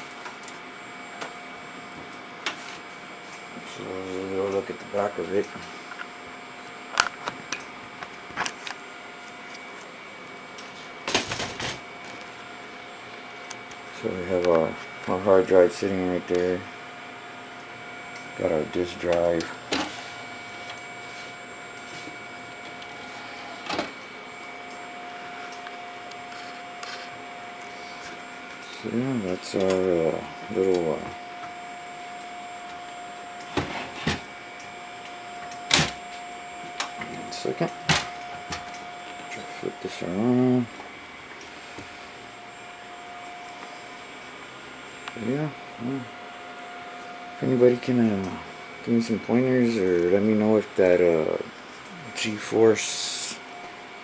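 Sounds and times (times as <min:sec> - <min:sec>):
faint computer whine: 0:00.0 - 0:54.0.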